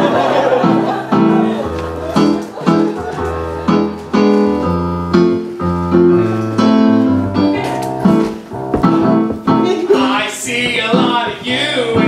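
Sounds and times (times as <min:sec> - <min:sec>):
keyboard playing chords: 0:00.0 - 0:12.0.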